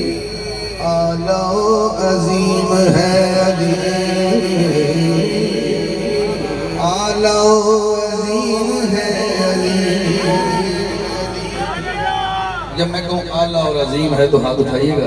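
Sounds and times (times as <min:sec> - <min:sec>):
man singing over pa system: 0:00.0 - 0:15.0.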